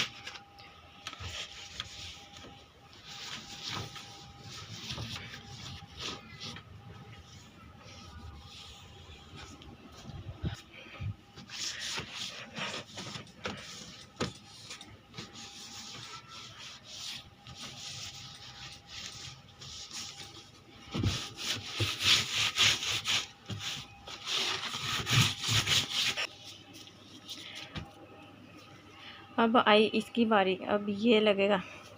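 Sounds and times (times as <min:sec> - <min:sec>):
rubbing and brushing strokes: 0:01.1 - 0:27.6.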